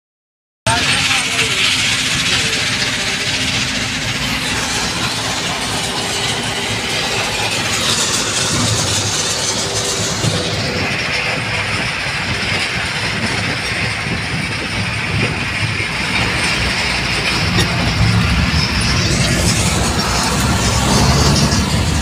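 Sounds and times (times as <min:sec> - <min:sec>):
constant rattling: 0:00.7 - 0:22.0
vehicle engine running: 0:00.7 - 0:22.0.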